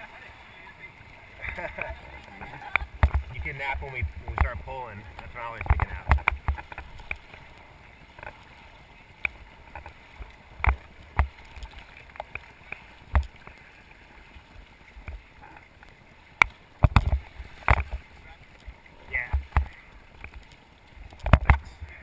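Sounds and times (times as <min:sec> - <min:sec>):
faint water noise: 0:00.0 - 0:22.0
thumps and splashes: 0:01.4 - 0:22.0.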